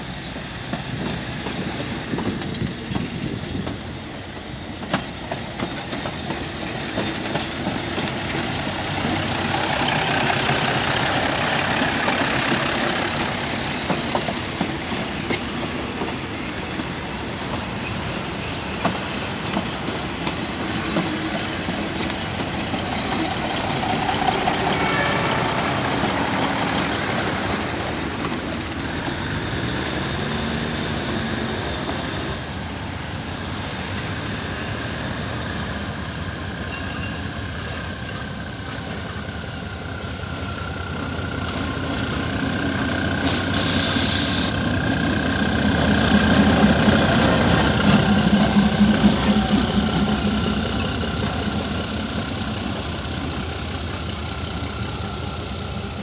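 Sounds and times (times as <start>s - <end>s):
train rolling past: 0.0s - 56.0s
wheels clicking over rail joints: 0.2s - 33.0s, 36.6s - 56.0s.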